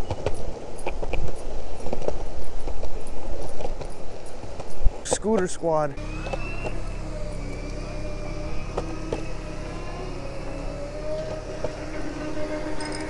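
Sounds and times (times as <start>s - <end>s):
longboard wheels rolling on concrete: 0.0s - 13.0s
wheels clacking over cracks: 0.0s - 13.0s.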